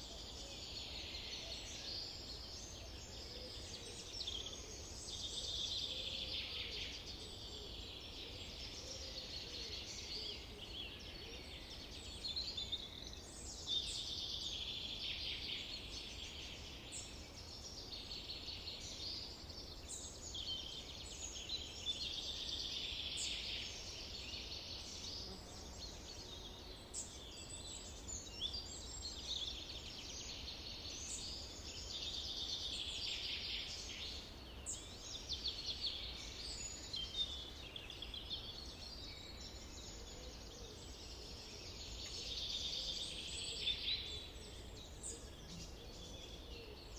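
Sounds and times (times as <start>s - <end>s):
birds singing: 0.0s - 46.9s.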